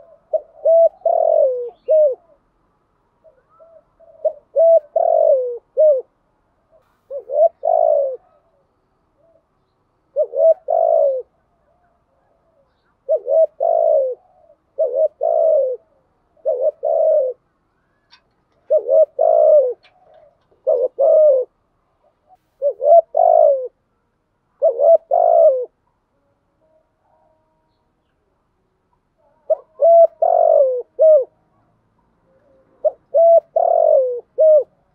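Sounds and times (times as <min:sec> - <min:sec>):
dove cooing: 0:00.0 - 0:02.6, 0:03.2 - 0:23.8, 0:24.6 - 0:27.8, 0:28.9 - 0:34.9.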